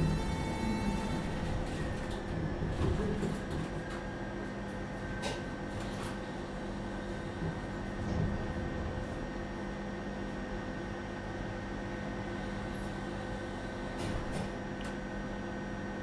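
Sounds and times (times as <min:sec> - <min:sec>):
tram rumble and electrical hum: 0:00.0 - 0:16.0.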